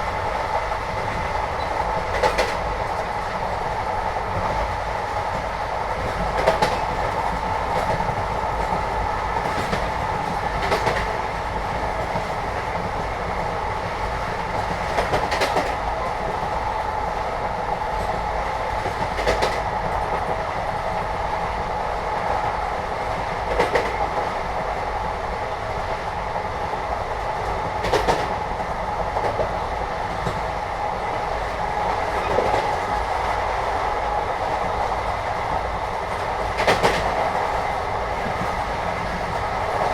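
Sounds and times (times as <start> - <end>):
train wheel clacks: 0.0 - 16.9, 17.7 - 21.1, 22.2 - 24.6, 27.4 - 30.6, 31.5 - 39.9
train rumble: 0.0 - 39.9.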